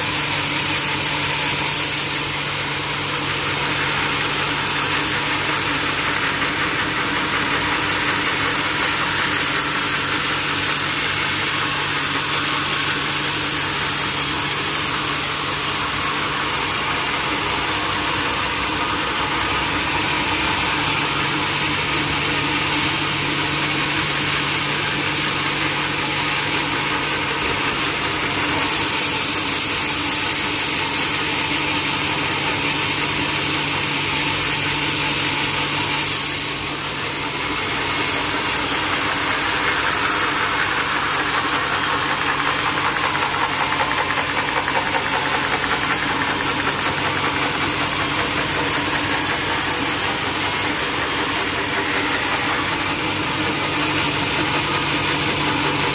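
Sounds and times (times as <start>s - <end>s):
sawmill machinery motor hum: 0.0s - 55.9s.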